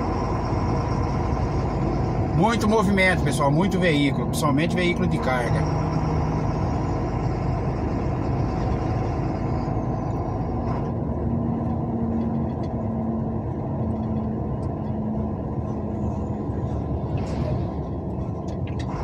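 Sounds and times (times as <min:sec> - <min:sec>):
vehicle road and engine noise: 0:00.0 - 0:19.0.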